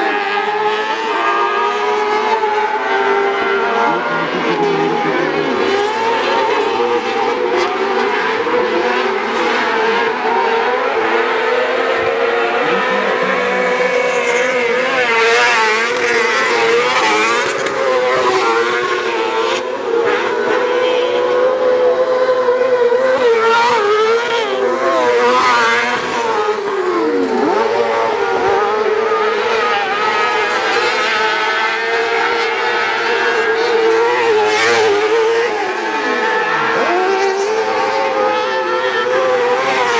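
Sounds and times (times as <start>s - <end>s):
buggy engines racing: 0.0s - 39.9s.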